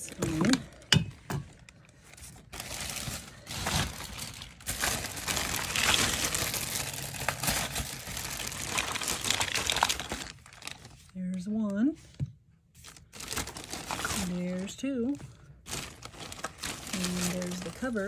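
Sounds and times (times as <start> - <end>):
plastic packaging crinkling: 0.0 - 11.6, 12.8 - 18.0.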